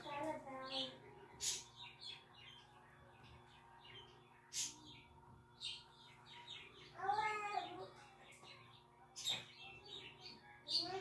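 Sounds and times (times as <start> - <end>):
small bird chirping: 0.1 - 11.0.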